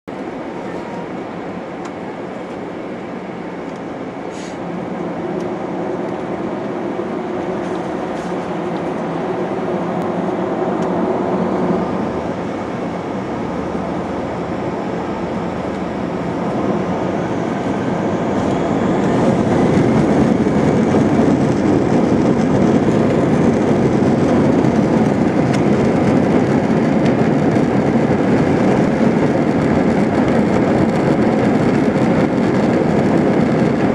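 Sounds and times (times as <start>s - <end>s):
wheels rumbling on runway: 0.1s - 33.9s
jet engines spooling up: 0.2s - 33.9s.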